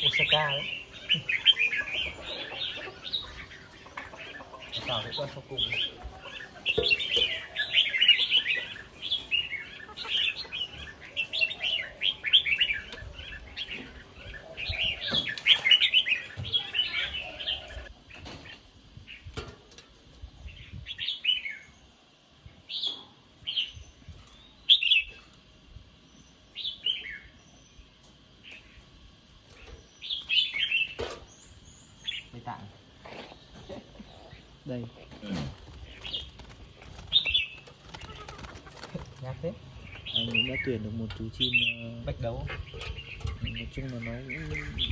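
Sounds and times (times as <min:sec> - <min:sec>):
bulbuls chirping: 0:00.0 - 0:44.9.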